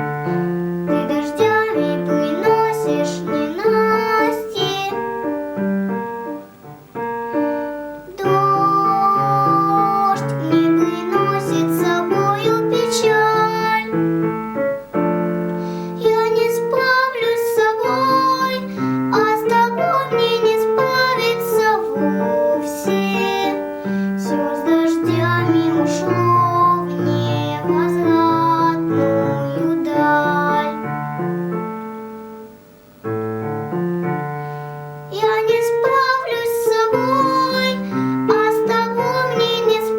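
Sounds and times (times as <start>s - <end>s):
girl singing: 0.0s - 31.3s, 35.1s - 39.9s
keyboard accompaniment: 0.0s - 39.9s.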